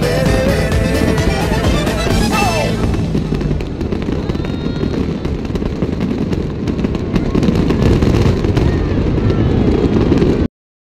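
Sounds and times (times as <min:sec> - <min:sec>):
fireworks booming: 0:00.0 - 0:10.5
fireworks crackling: 0:00.0 - 0:10.5.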